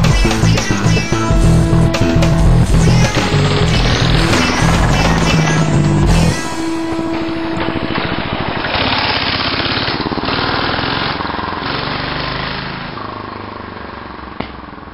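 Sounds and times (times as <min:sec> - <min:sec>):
small engine running: 0:00.0 - 0:14.9.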